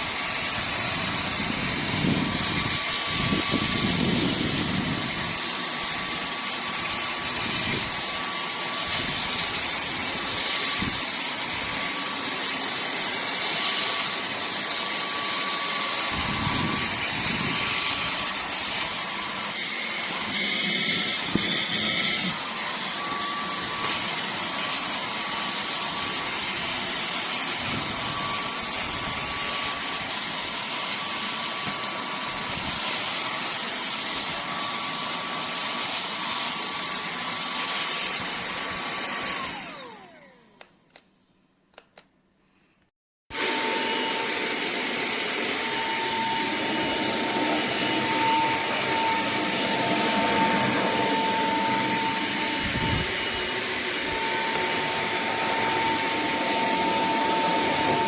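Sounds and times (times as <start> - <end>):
handheld vacuum cleaner whine: 0.0 - 41.2, 43.3 - 58.0.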